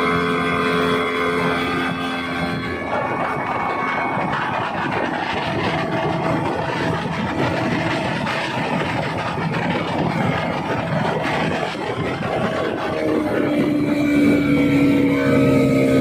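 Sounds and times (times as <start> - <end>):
outboard engine running: 0.0 - 16.0.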